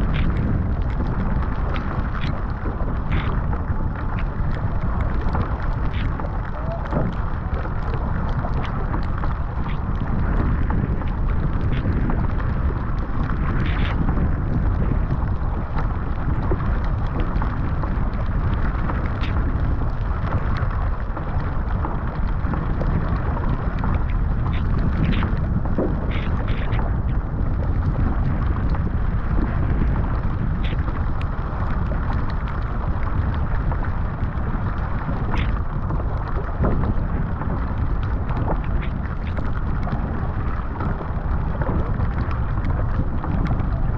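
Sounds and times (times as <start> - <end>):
paddle blade splashing: 0.0 - 43.9
rushing water: 0.0 - 43.9
water and rain ticking on deck: 0.0 - 43.9
wind buffeting microphone: 0.0 - 43.9.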